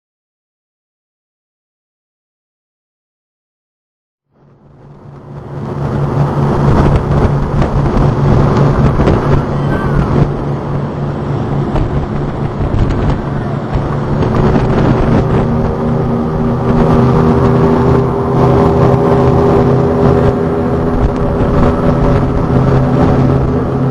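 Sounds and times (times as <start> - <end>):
boat engine droning: 4.3 - 23.9.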